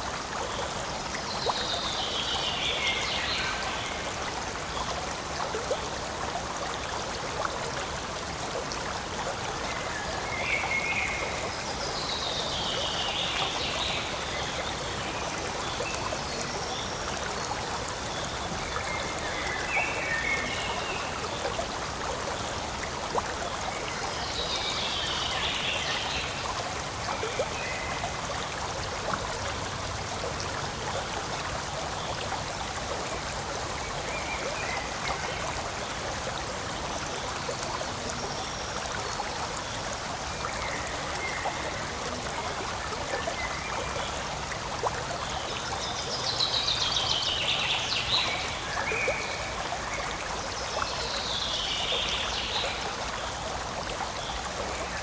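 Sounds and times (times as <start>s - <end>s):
stream flowing and trickling: 0.0s - 55.0s.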